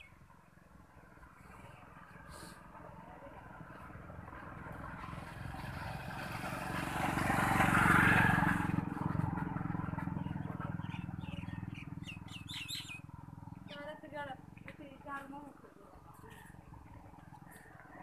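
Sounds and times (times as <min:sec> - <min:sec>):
vehicle driving past: 0:00.0 - 0:14.6.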